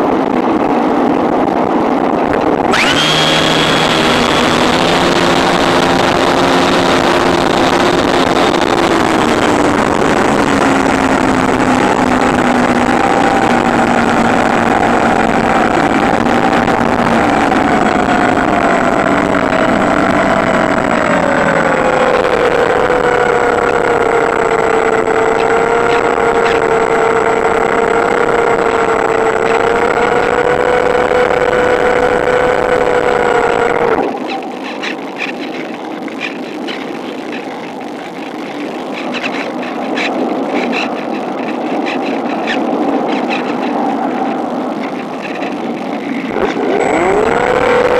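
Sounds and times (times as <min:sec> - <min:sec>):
electric motor and propeller whine: 0:00.0 - 0:47.9.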